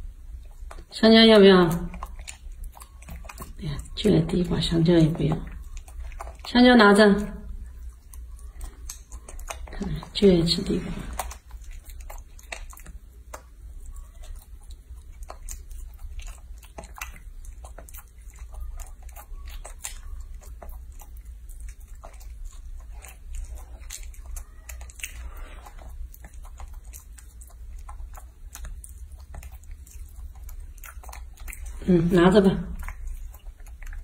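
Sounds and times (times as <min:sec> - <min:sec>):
monkey chewing wetly: 0:00.0 - 0:34.0
steady low hum: 0:00.0 - 0:34.0.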